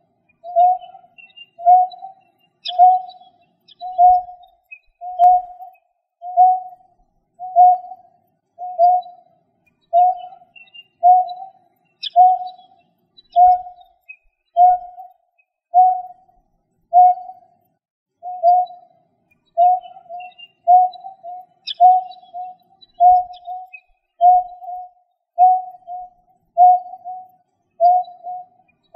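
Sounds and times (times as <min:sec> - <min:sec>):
faint higher chirps: 0:00.0 - 0:28.9.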